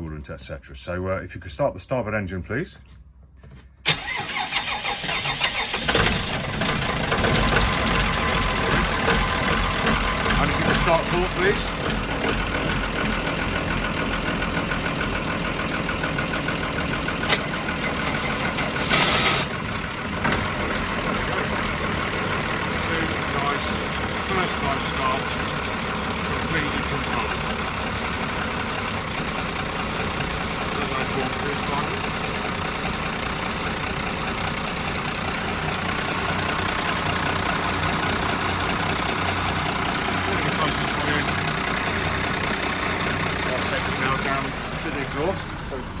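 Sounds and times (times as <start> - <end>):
diesel engine idling: 3.8 - 46.0
fast regular engine ticking: 3.9 - 46.0.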